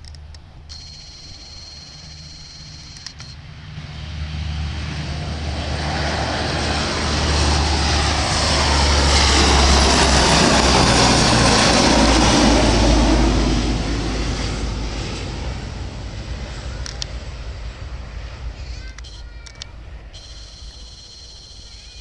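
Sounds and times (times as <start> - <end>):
turboprop aircraft engines droning: 0.0 - 22.0.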